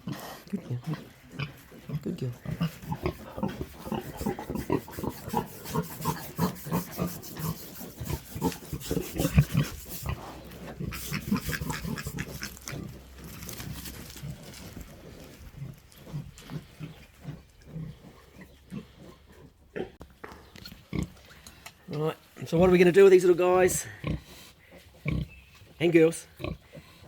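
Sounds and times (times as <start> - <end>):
pig grunting: 0.0 - 20.0, 23.6 - 27.0.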